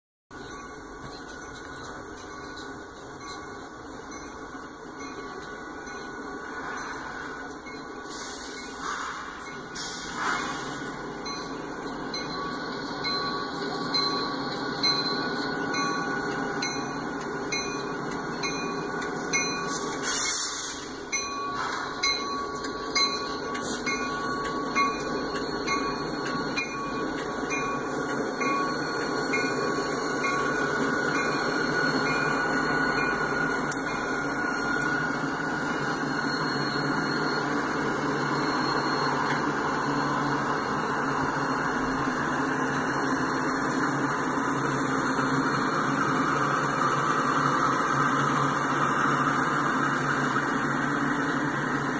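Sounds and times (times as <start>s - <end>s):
crossing bell ringing: 0.3s - 51.9s
diesel locomotive engines: 0.3s - 51.9s.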